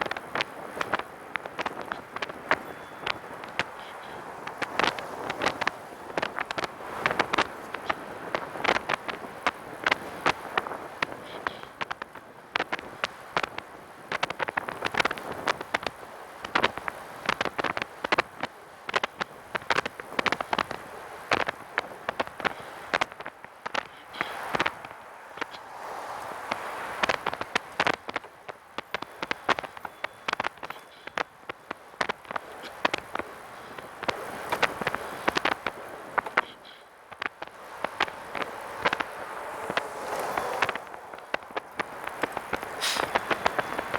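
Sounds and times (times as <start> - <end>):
steady rushing noise: 0.0 - 43.9.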